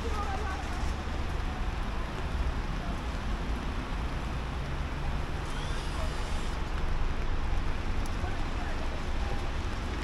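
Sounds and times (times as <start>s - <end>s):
traffic on wet roads: 0.0s - 10.0s.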